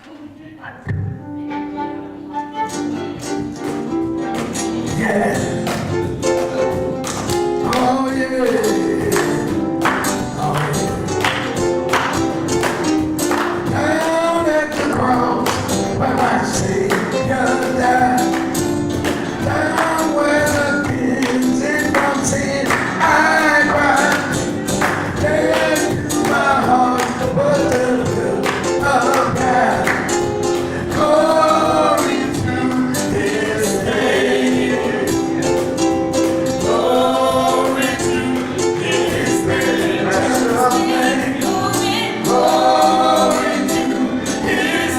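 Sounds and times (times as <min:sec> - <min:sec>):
steady percussive beat: 0:02.8 - 0:44.9
voices singing gospel song: 0:03.9 - 0:44.9.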